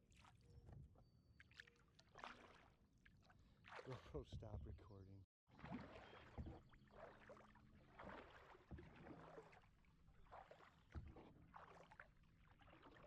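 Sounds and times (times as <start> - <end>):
paddle strokes in water: 1.4 - 4.9, 5.5 - 13.0.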